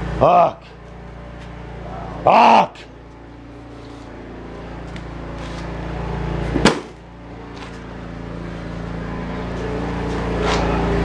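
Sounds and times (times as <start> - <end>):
buggy engine idling: 0.0 - 11.0.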